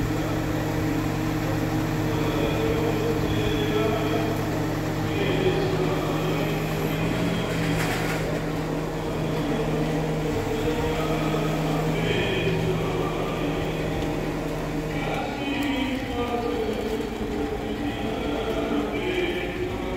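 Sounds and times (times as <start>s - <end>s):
diesel truck engine running: 0.0s - 19.9s.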